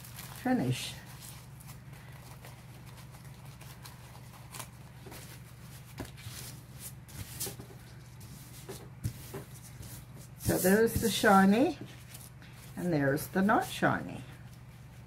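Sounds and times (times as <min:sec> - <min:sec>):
paper rustling and crinkling: 0:00.0 - 0:13.8.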